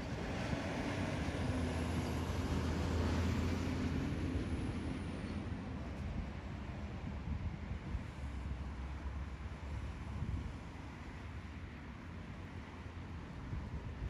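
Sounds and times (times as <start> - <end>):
cars and trucks driving past: 0.0 - 14.0.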